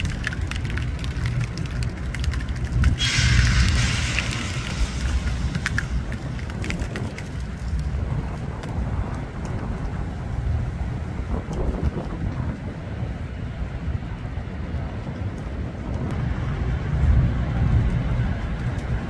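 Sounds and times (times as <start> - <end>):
road traffic rumble: 0.0 - 19.0
wind buffeting microphone: 0.0 - 19.0.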